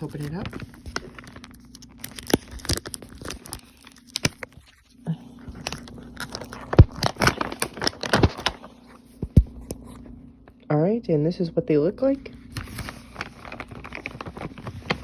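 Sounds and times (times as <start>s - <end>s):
plastic pouch crinkling: 0.0s - 9.8s, 12.5s - 15.0s.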